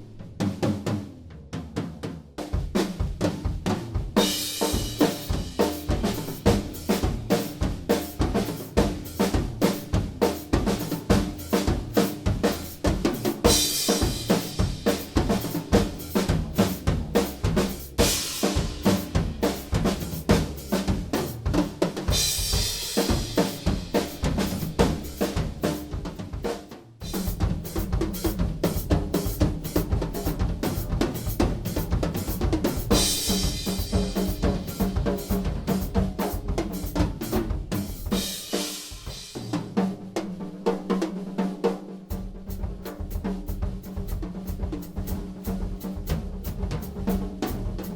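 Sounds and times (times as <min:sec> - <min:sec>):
drum kit groove: 0:00.0 - 0:47.9.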